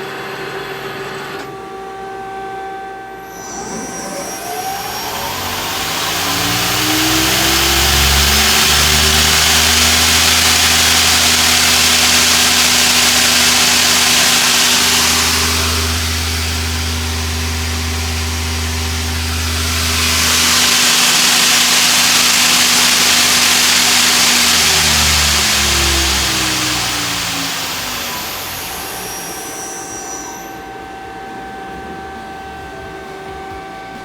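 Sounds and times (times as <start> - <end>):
lathe whine: 0.0 - 32.5.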